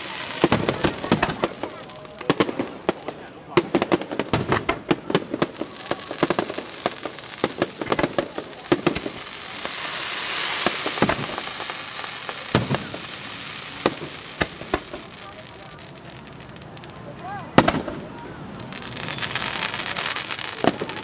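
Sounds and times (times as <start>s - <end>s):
fireworks banging: 0.0s - 21.0s
fireworks crackling: 0.0s - 21.0s.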